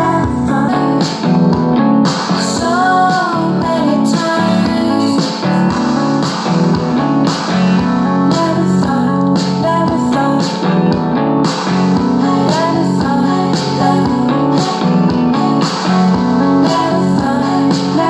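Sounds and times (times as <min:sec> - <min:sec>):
guitar song from portable speaker: 0:00.0 - 0:18.0.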